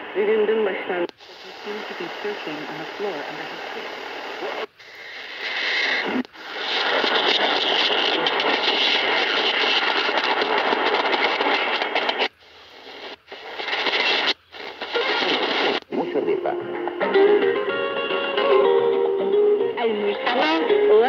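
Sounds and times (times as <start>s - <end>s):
radio static and hiss: 0.0s - 17.7s, 18.8s - 21.0s.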